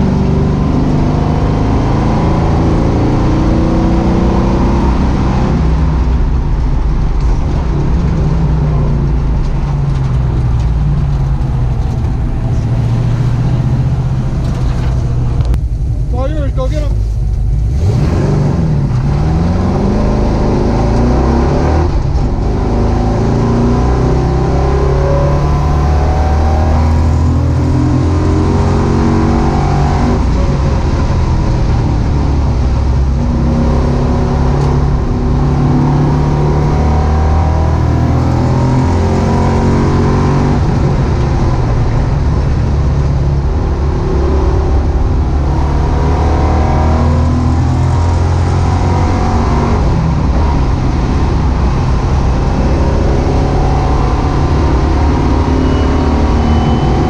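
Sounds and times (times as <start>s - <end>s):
car engine revving in cabin: 0.0s - 57.0s.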